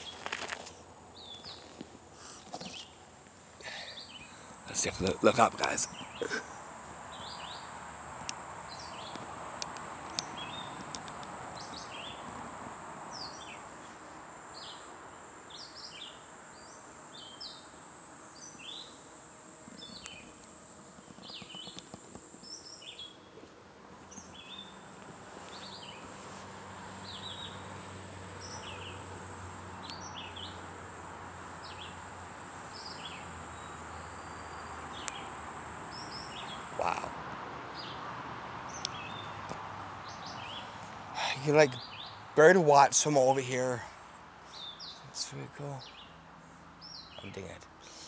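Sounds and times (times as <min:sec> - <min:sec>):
small birds chirping: 0:00.0 - 0:12.4, 0:13.1 - 0:38.0, 0:38.6 - 0:48.0
insect buzz: 0:00.0 - 0:48.0
soft rushing hiss: 0:00.0 - 0:48.0.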